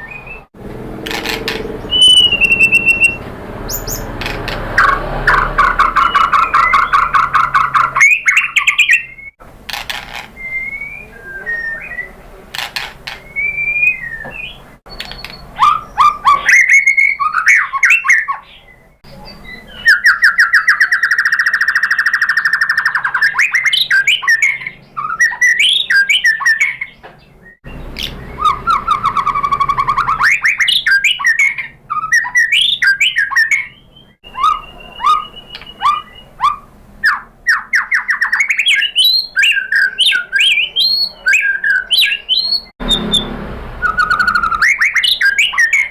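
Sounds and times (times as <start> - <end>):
bird whistled song: 0.0 - 0.5, 1.2 - 4.2, 4.8 - 9.4, 10.1 - 12.2, 13.1 - 45.9
rapid bird trill: 0.0 - 27.0, 27.6 - 45.9.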